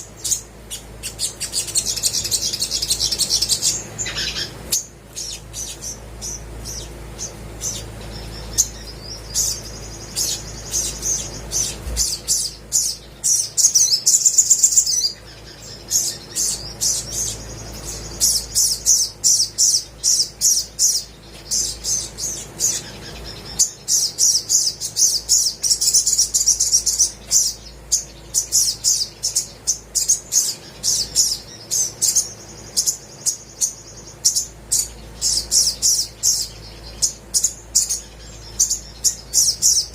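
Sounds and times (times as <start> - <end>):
bird high chirps and trills: 0.0 - 39.9.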